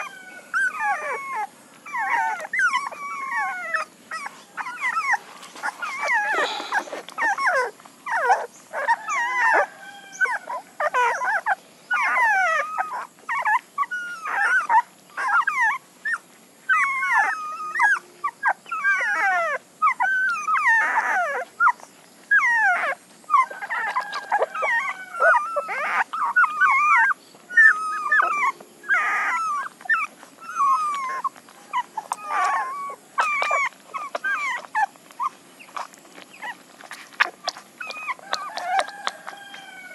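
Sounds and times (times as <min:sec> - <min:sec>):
puppies whimpering and squealing: 0:00.0 - 0:39.9.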